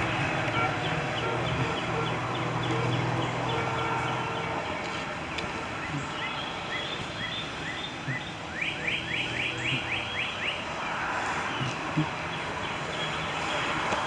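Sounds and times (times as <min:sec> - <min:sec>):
outdoor background noise: 0:00.0 - 0:14.0
songbird chirping: 0:00.0 - 0:14.0.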